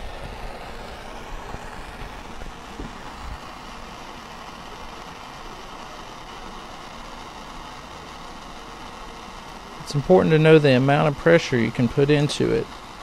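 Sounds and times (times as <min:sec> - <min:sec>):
hand torch hissing: 0:00.0 - 0:13.0.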